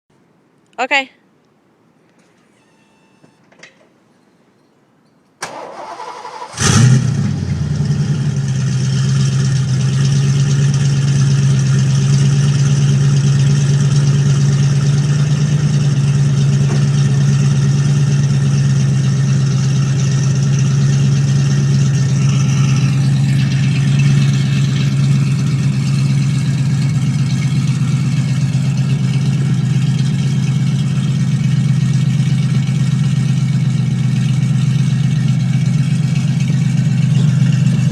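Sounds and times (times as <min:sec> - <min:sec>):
car engine starting and idling: 0:05.4 - 0:37.9.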